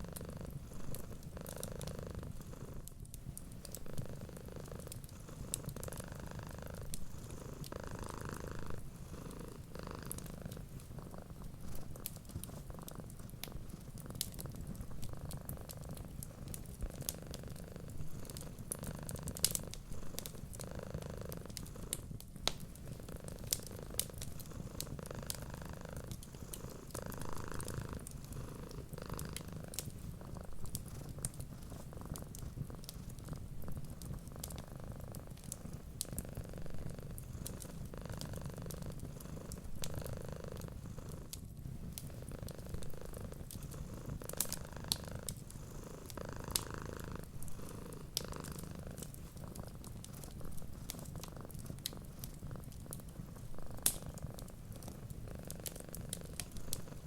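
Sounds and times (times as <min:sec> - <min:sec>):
cat purring: 0:00.0 - 0:57.0
wood fire crackling: 0:00.9 - 0:57.0.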